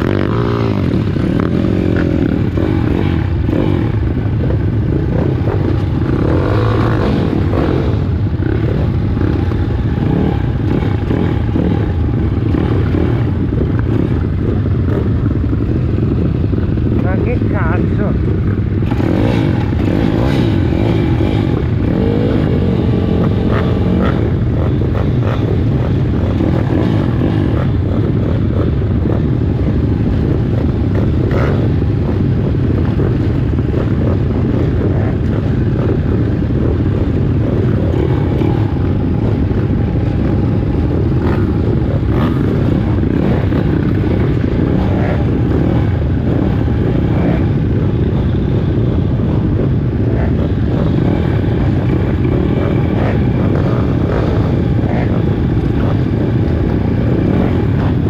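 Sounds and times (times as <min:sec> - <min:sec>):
small engines idling and blipping: 0:00.0 - 0:58.0.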